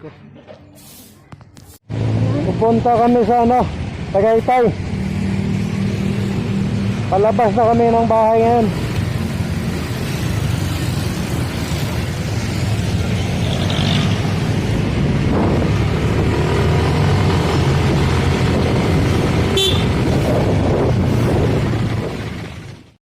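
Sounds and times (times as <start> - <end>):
car engine and road noise: 1.4 - 23.0.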